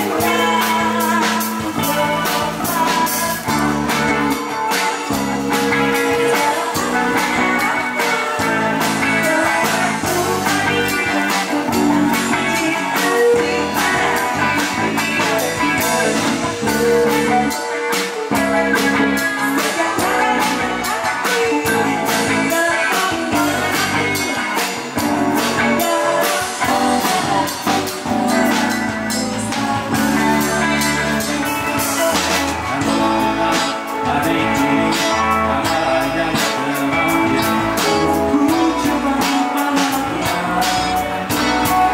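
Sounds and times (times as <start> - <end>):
bass guitar: 0.0 - 41.9
drum kit beat: 0.0 - 41.9
electric guitar: 0.0 - 41.9
keyboard: 0.0 - 41.9
person singing: 0.0 - 41.9.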